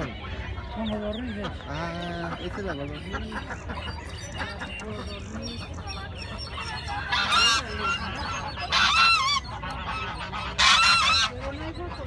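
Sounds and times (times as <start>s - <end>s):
bird calling loudly: 0.0s - 12.0s
birds chattering: 0.0s - 12.0s.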